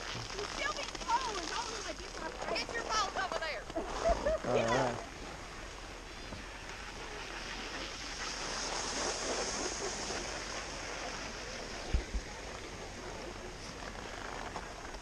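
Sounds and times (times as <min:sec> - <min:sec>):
skis sliding over snow: 0:00.0 - 0:15.0
wind on microphone: 0:00.0 - 0:15.0.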